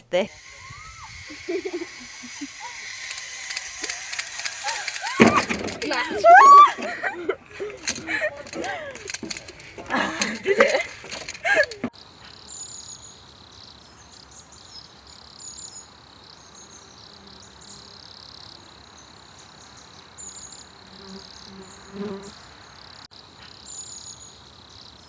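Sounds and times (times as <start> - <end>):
insects chirring: 0.2 - 25.0.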